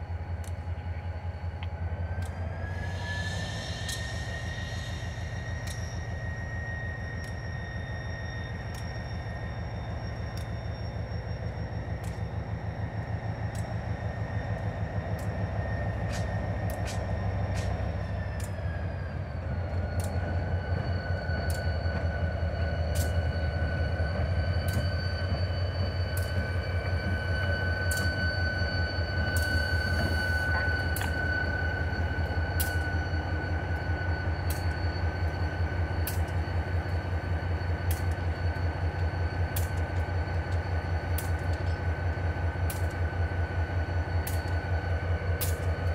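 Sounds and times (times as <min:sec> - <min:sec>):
high whine: 0:00.0 - 0:45.9
locomotive engine throbbing: 0:00.0 - 0:45.9.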